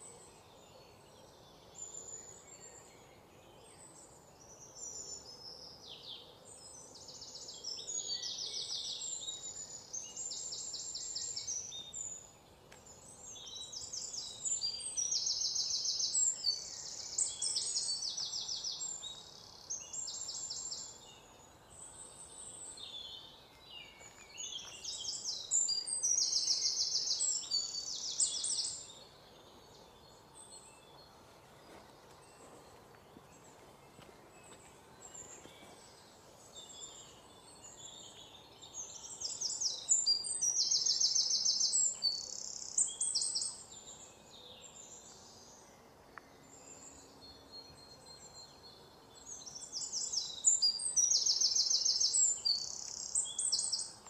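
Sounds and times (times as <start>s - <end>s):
faint outdoor hiss: 0.0s - 54.0s.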